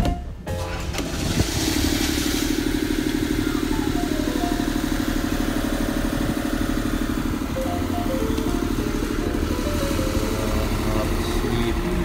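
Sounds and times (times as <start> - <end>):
pulsing motor hum: 0.5 - 12.0.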